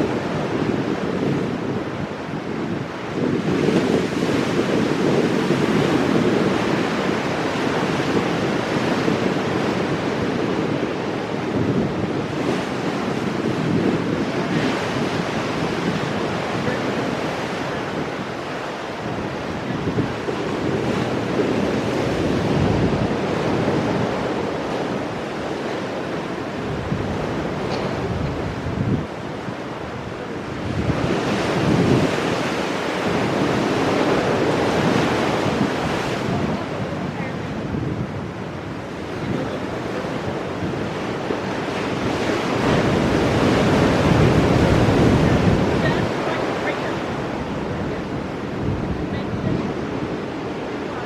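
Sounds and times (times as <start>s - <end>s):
ocean waves breaking on rocks: 0.0s - 51.0s
wind buffeting microphone: 0.0s - 51.0s.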